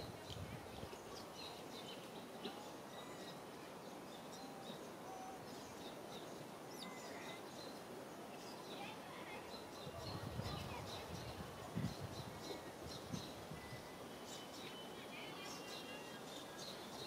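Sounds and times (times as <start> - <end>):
low background hiss: 0.0 - 17.0
faint bird chirps: 0.8 - 17.0.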